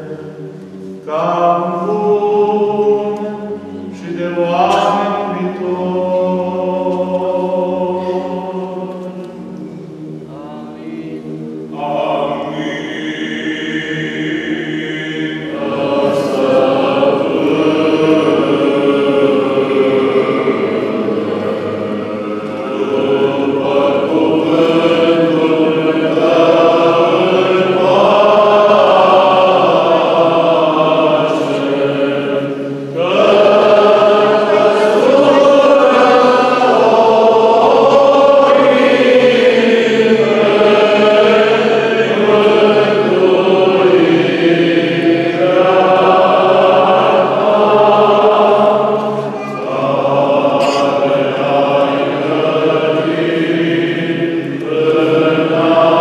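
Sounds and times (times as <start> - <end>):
choir chanting unaccompanied: 0.0 - 56.0.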